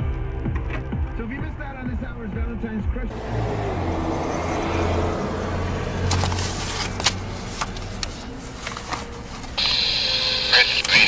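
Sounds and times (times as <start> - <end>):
car interior hum: 0.2 - 11.0.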